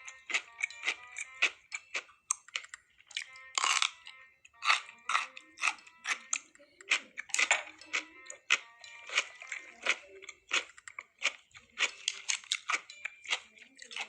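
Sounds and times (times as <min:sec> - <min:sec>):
faint background music: 0:00.0 - 0:14.0.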